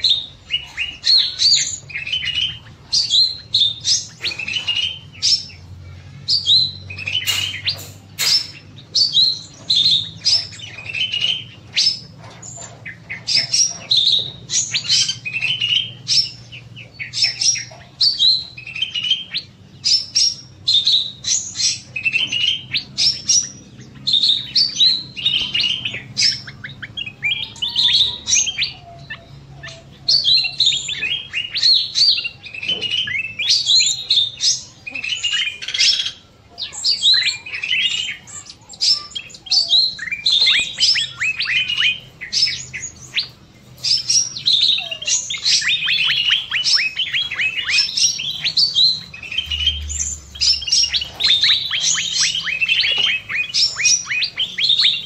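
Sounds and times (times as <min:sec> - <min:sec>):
bird singing in rapid chirps: 0:00.0 - 0:55.0
small birds chirping: 0:00.0 - 0:55.0.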